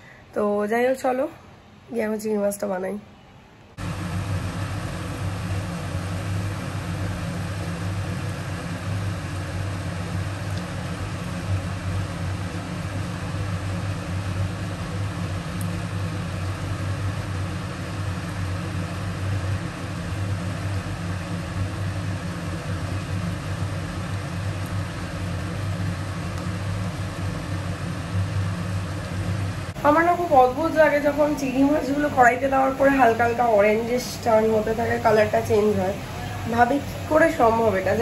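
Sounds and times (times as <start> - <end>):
exhaust fan humming: 0.0 - 38.0.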